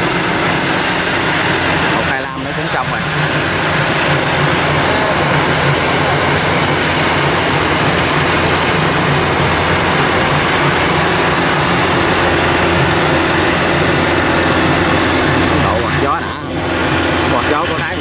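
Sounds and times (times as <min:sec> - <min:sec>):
combine harvester engine drone: 0:00.0 - 0:18.0
rushing hiss of threshing: 0:00.0 - 0:18.0.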